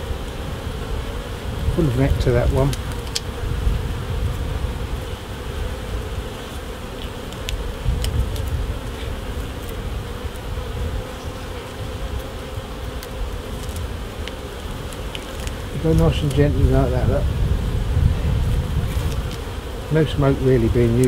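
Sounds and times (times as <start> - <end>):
honeybees humming: 0.0 - 21.0
faint clicks of hive frames: 0.2 - 16.7, 18.4 - 21.0.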